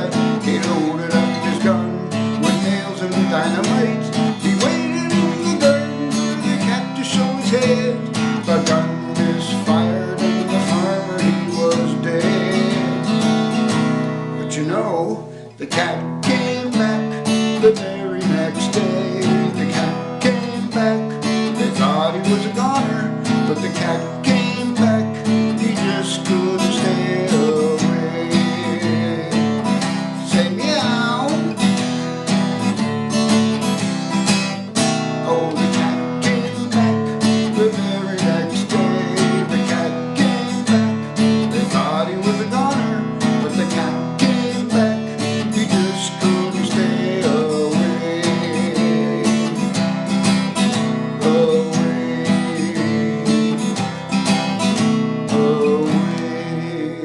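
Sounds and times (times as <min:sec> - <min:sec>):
acoustic guitar strumming: 0:00.0 - 0:57.0
sliding guitar lines: 0:00.0 - 0:57.0.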